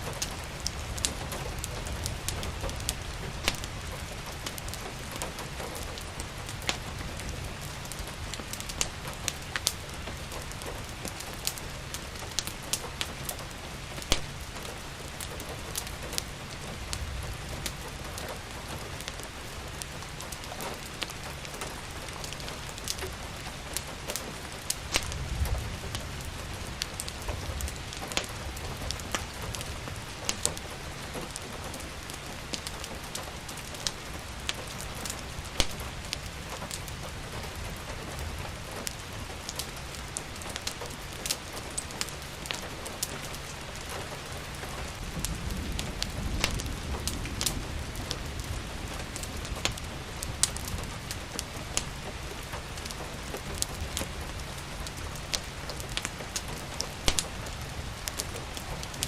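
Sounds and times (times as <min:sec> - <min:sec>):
rain hissing: 0:00.0 - 0:59.0
wood fire crackling: 0:00.0 - 0:59.0.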